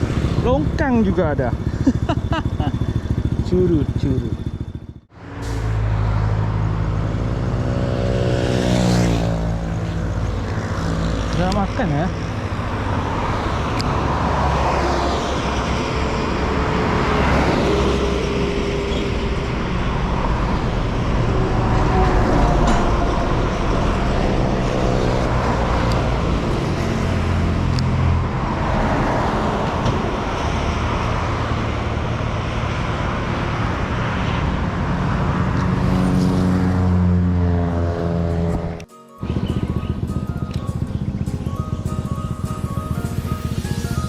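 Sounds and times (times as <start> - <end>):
vehicle engine running: 0.0 - 44.0
wind and road noise: 0.0 - 44.0.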